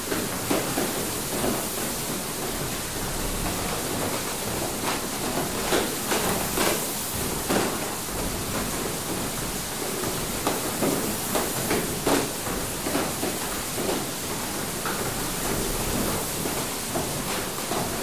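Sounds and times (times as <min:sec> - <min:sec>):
mill machinery knocking: 0:00.0 - 0:18.0.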